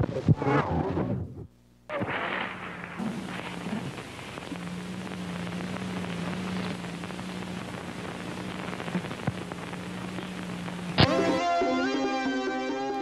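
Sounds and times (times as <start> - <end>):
low electrical hum: 0.0 - 13.0
tape static hiss with crackles: 0.0 - 13.0.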